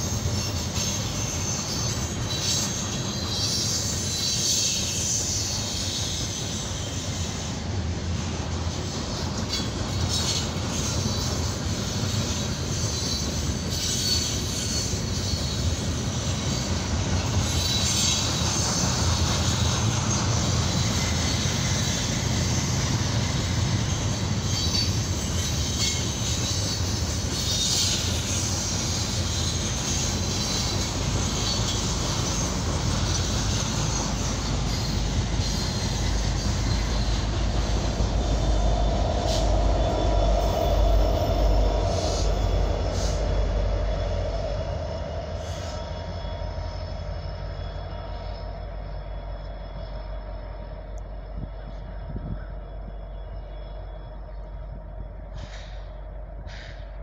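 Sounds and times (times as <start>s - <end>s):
high-pitched wheel squeal: 0.0s - 7.8s, 8.8s - 57.0s
diesel locomotive engine: 0.0s - 57.0s
steel wheels rumbling on rail: 0.0s - 57.0s.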